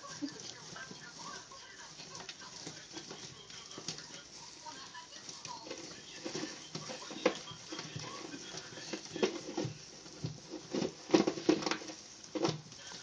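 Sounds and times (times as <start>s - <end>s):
tortoise claws scratching: 0.0s - 13.0s.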